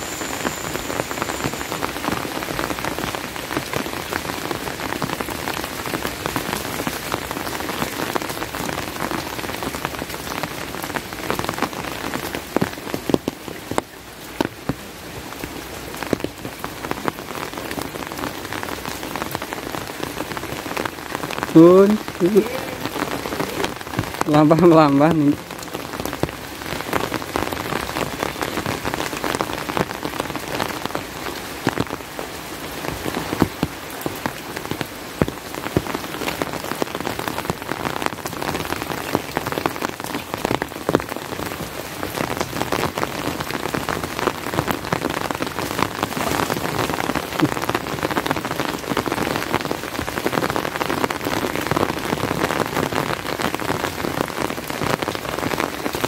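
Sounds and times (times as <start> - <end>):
raindrops ticking close by: 0.0 - 56.0
steady rain: 0.0 - 56.0.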